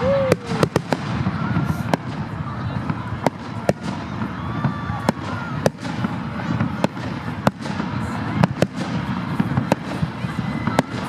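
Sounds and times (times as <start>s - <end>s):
firework whistles: 0.0s - 11.0s.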